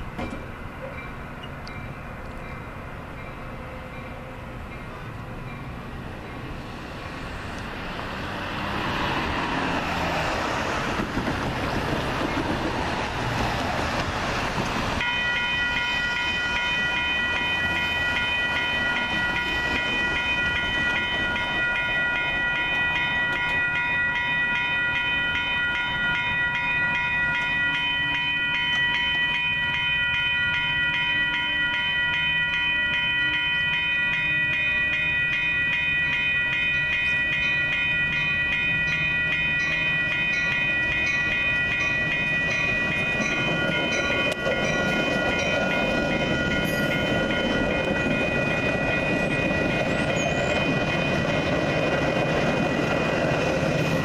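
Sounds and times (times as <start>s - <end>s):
railroad crossing bells ringing: 0.0s - 54.0s
road traffic: 0.0s - 54.0s.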